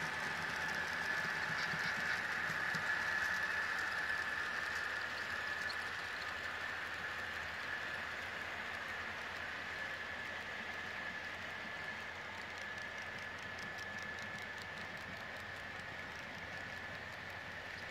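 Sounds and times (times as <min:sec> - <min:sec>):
model train running on track: 0:00.0 - 0:17.9.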